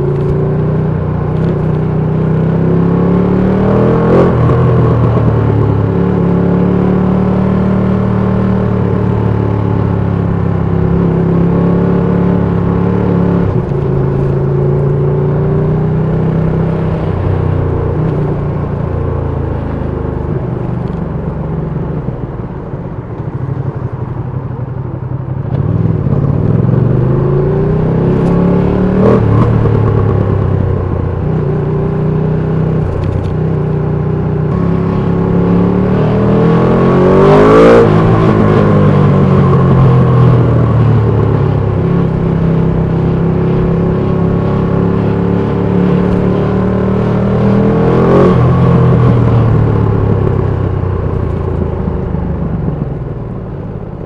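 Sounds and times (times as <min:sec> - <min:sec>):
motorcycle engine revving: 0:00.0 - 0:22.4, 0:23.3 - 0:53.2.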